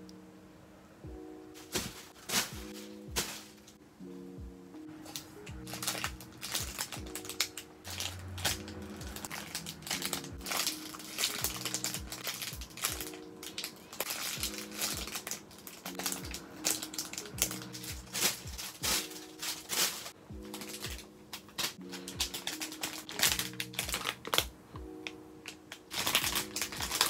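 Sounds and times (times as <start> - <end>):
soft background music with beat: 1.0 - 27.0
plastic bags crinkling: 1.6 - 3.8, 5.0 - 27.0.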